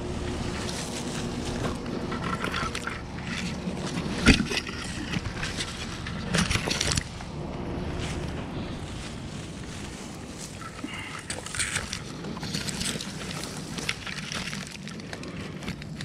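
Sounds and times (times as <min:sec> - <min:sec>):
leaves and twigs rustling: 0:00.0 - 0:16.0.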